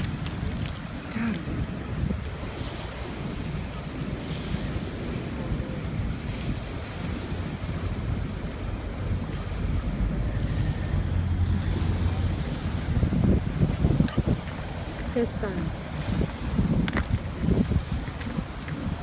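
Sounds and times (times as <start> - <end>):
flooded river rushing: 0.0 - 19.0
wind buffeting microphone: 0.0 - 19.0.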